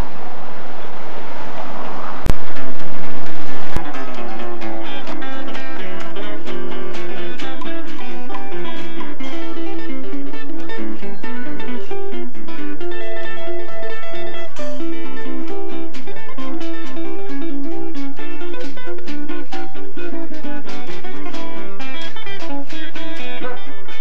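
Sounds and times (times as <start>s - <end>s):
upright bass notes: 2.3s - 24.0s
acoustic guitar strummed: 3.8s - 24.0s.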